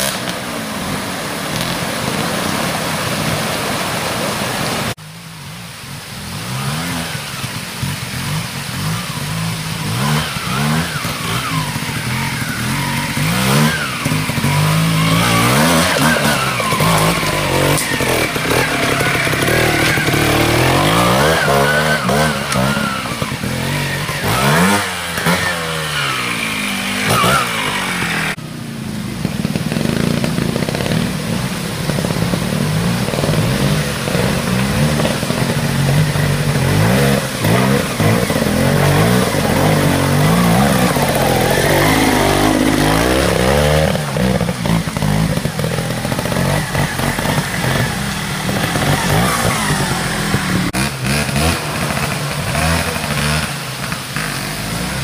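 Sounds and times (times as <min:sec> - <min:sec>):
motorcycle engines revving: 0:00.0 - 0:55.0
rushing water: 0:00.0 - 0:55.0.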